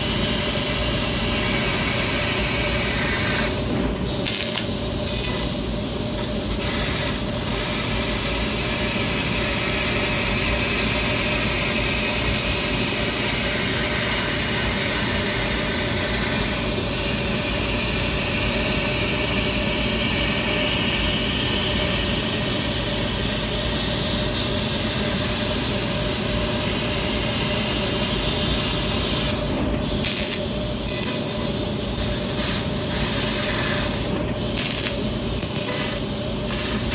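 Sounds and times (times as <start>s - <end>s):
laser cutter hissing through steel: 0.1s - 36.9s.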